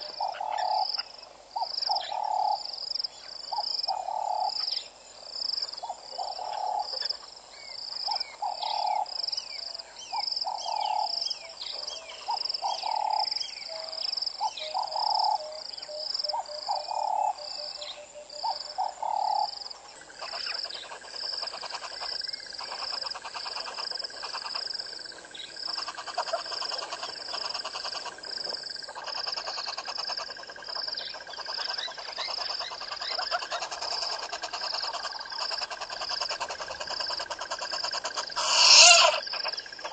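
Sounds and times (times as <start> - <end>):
lower bird calls: 0.0 - 4.9, 5.8 - 24.7, 30.9 - 39.9
frogs calling: 0.0 - 39.9.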